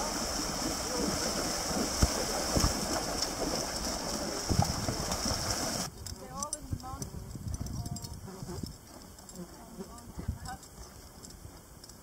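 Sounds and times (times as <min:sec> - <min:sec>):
wind buffeting microphone: 0:00.0 - 0:11.7.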